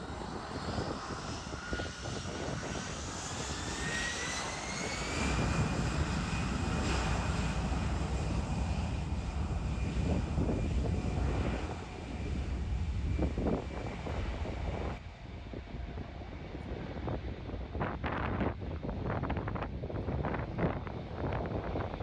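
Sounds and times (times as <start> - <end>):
jet engine whine rising: 0.0 - 22.0.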